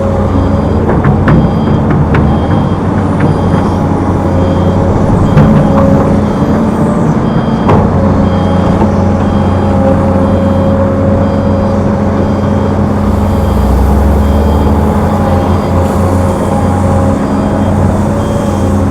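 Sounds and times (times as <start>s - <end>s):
diesel engine running: 0.0s - 18.9s
reversing alarm beeping: 0.0s - 18.9s.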